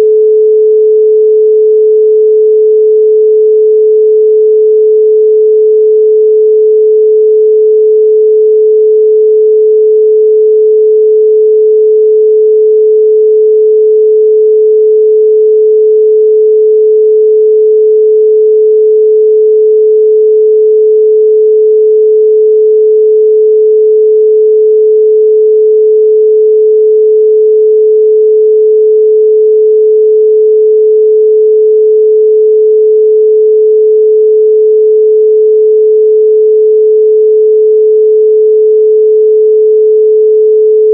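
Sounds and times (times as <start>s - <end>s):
pure sine tone: 0.0s - 40.9s.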